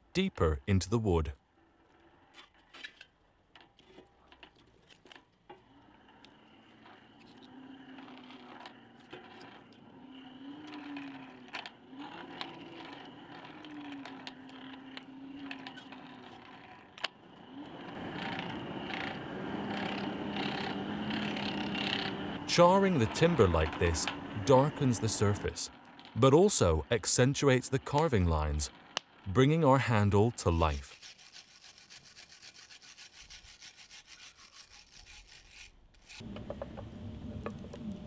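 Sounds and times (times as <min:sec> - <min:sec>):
hand-cranked blower whirring: 0:04.6 - 0:38.0.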